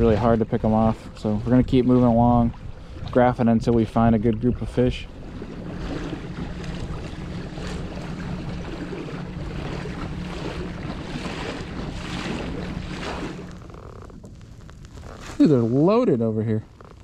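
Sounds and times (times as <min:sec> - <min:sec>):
steady low hum: 0:00.0 - 0:17.0
water splashing along hull: 0:00.0 - 0:17.0.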